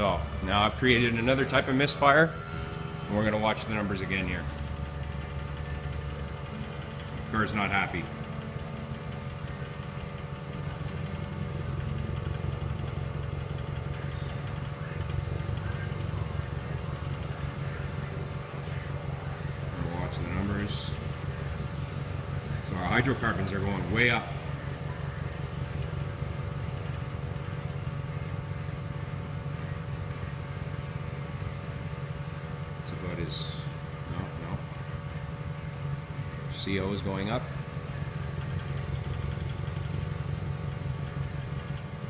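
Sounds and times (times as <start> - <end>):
car engine idling unevenly: 0.0 - 42.0.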